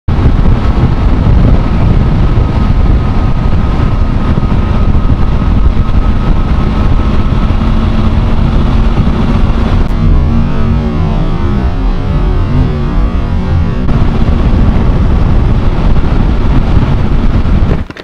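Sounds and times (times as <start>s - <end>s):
motorcycle engine hum: 0.1s - 18.0s
wind rush on microphone: 0.1s - 18.0s.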